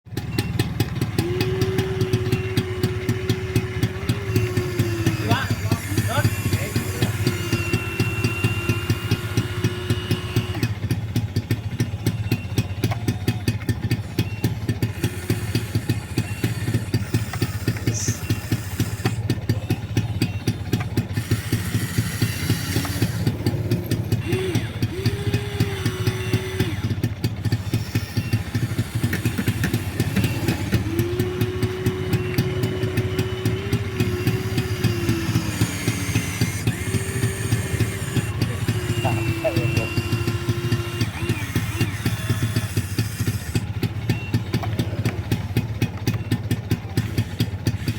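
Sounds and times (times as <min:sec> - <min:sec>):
electric motors whining: 0:00.1 - 0:47.9
fast mechanical throbbing: 0:00.2 - 0:47.9.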